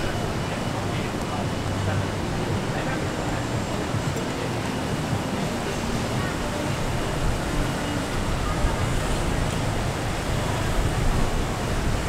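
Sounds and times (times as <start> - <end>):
indistinct voices: 0.0 - 12.0.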